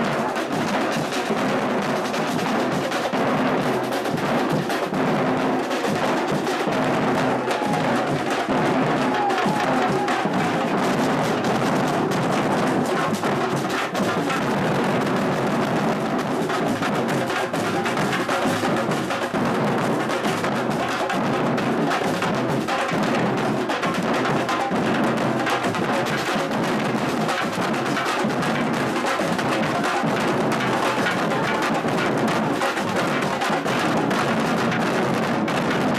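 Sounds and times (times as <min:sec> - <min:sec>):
drum ensemble percussion groove: 0:00.0 - 0:35.9.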